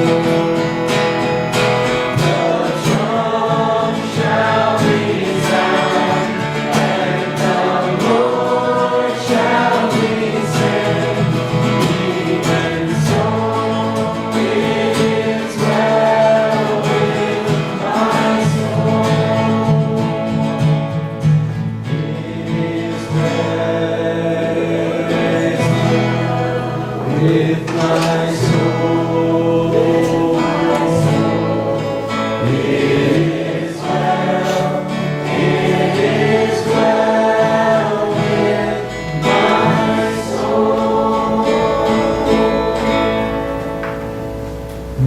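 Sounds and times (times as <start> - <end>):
group singing gospel song: 0.0 - 45.0
guitar accompaniment: 0.0 - 45.0.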